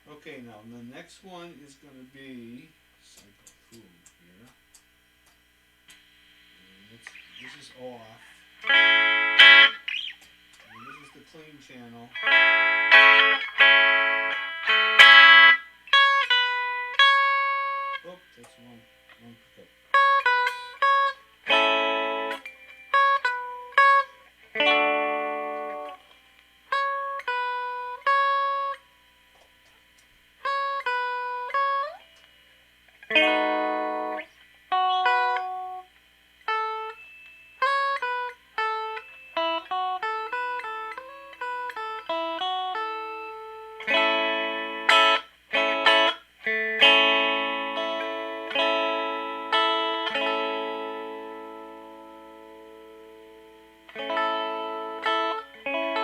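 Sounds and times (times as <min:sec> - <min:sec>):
clean electric guitar: 0:05.4 - 0:56.0.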